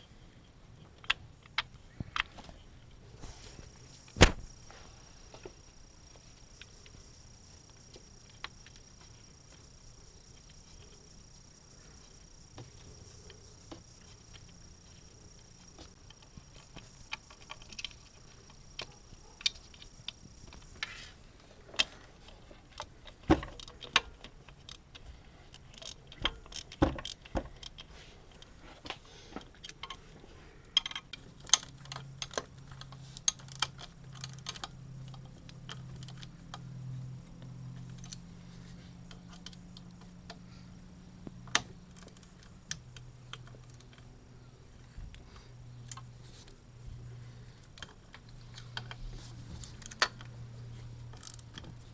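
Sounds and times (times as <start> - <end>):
low steady hum: 0.0 - 51.9.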